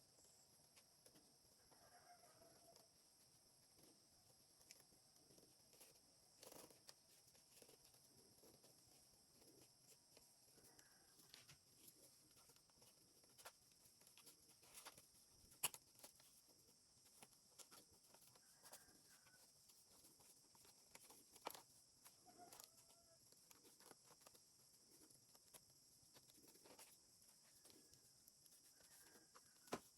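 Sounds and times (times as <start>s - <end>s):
faint clicks and taps: 2.6s - 29.9s.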